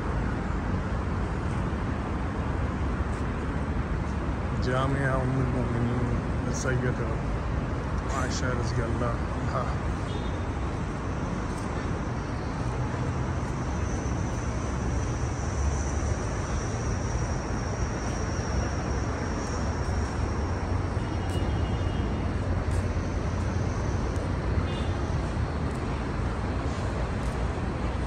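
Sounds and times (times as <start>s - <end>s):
faint high whine: 4.6s - 28.0s.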